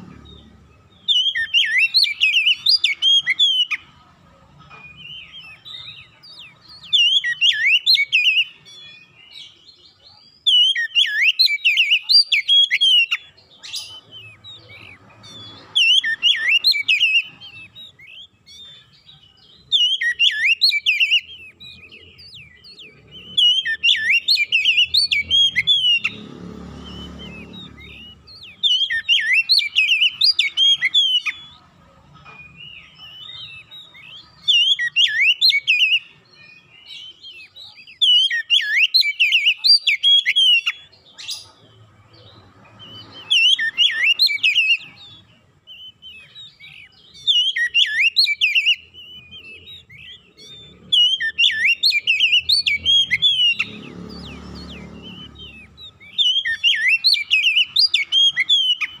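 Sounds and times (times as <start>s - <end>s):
bird singing whistles and chirps: 0.0s - 59.0s.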